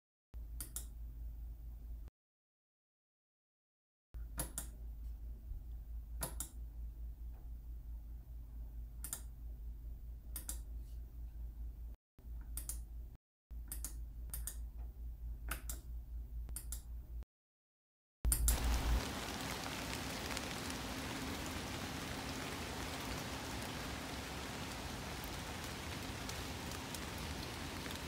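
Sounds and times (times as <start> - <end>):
low steady hum: 4.2 - 17.2, 18.3 - 28.0.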